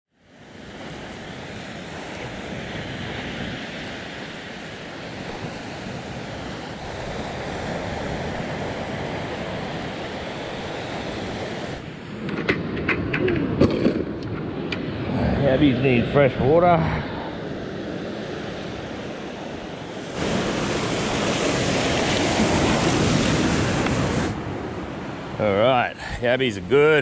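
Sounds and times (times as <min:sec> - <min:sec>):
ocean waves breaking on beach: 0:00.1 - 0:27.0.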